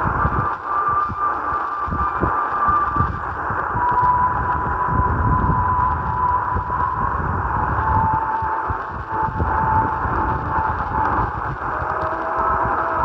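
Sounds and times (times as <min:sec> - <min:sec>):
heterodyne whistle: 0:00.0 - 0:13.0
low crackles: 0:00.0 - 0:13.0
radio static hiss: 0:00.0 - 0:13.0.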